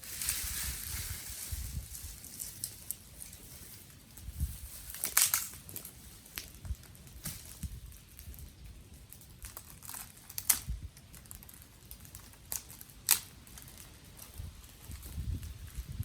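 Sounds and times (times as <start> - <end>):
dry twigs crackling and snapping: 0.0 - 16.0.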